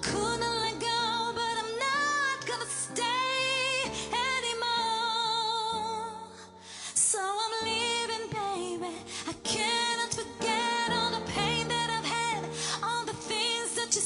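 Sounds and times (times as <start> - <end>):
woman singing with vibrato: 0.0 - 6.3, 7.0 - 14.0.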